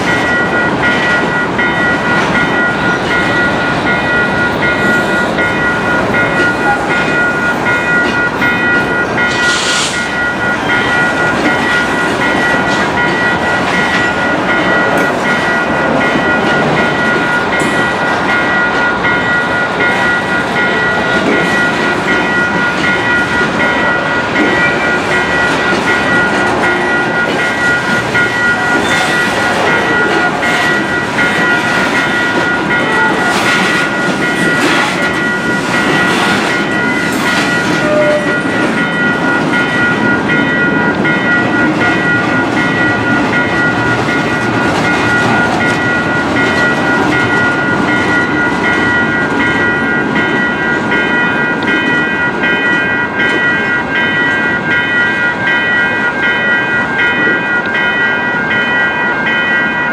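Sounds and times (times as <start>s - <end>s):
crossing warning bell: 0.0s - 59.9s
freight train wheels rumbling: 0.0s - 59.9s.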